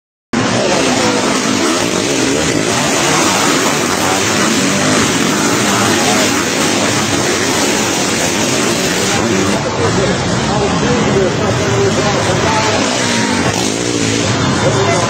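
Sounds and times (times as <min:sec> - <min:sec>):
racing engines revving: 0:00.4 - 0:15.0.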